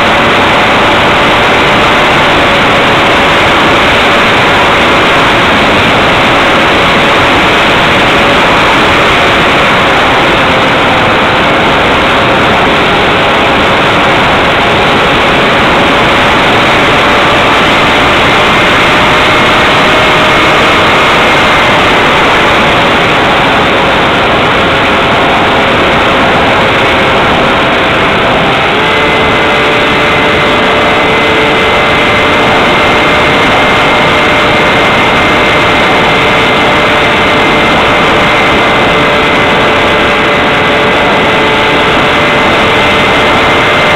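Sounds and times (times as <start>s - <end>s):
motor and propeller whine: 0.0s - 43.9s.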